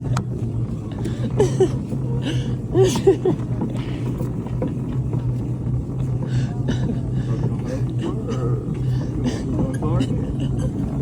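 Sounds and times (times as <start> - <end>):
low vehicle hum: 0.0 - 11.0.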